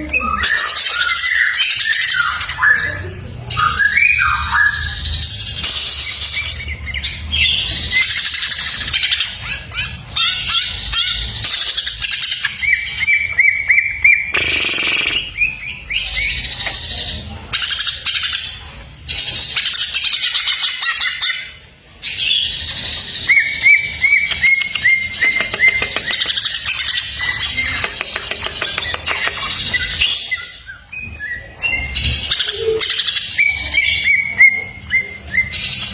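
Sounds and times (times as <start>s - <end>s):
bird singing varied song: 0.0s - 35.9s.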